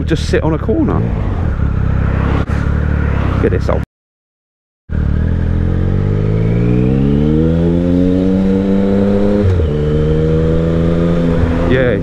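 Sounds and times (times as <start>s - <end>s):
motorcycle engine accelerating: 0.0s - 3.8s, 4.9s - 12.0s.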